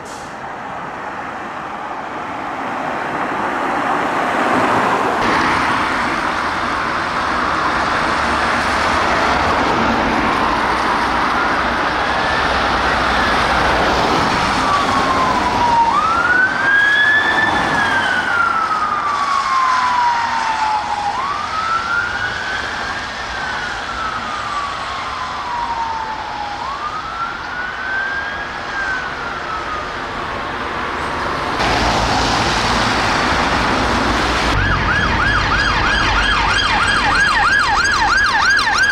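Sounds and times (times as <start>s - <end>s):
road traffic noise: 0.0s - 38.9s
police siren wailing: 4.5s - 30.8s, 31.6s - 38.9s.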